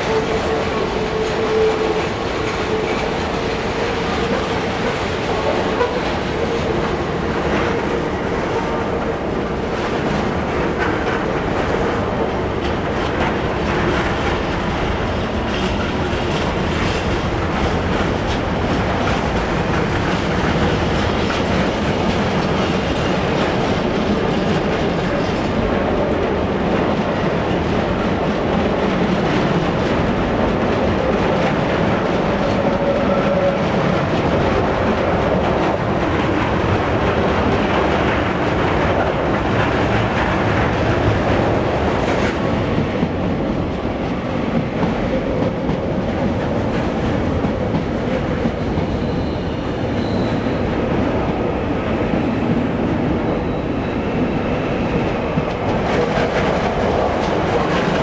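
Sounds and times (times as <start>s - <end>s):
clickety-clack over rail joints: 0.0s - 58.0s
train wheels rumbling on rail: 0.0s - 58.0s.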